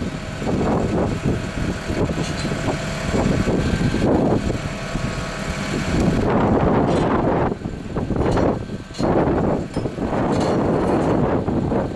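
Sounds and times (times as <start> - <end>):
truck engine rumbling: 0.0 - 11.9
wind gusting on microphone: 0.0 - 11.9.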